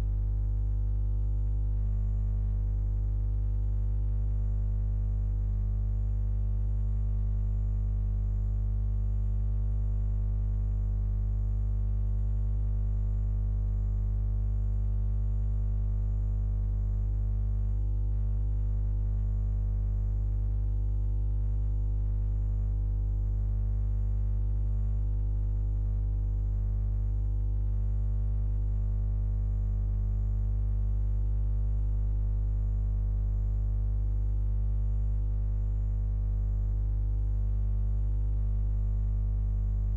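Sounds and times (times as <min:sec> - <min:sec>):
low hum of held tones: 0:00.0 - 0:39.9.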